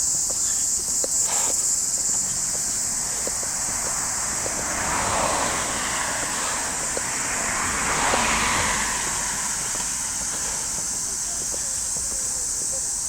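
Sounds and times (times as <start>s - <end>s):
cicadas droning: 0.0s - 13.0s
passing road traffic: 0.0s - 13.0s.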